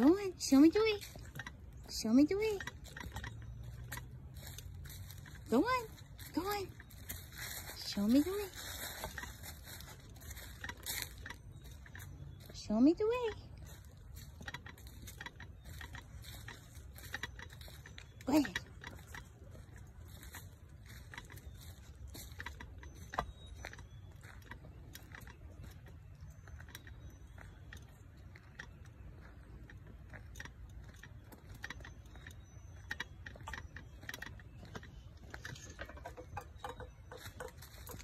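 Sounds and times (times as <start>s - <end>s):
footsteps in dry leaves: 2.6s - 12.6s, 13.5s - 38.0s.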